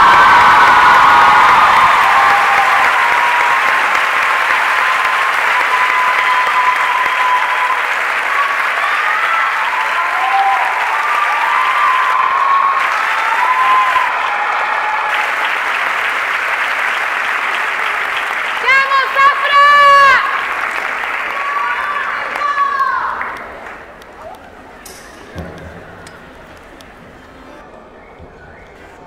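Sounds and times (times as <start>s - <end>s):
audience applauding: 0.0s - 27.6s.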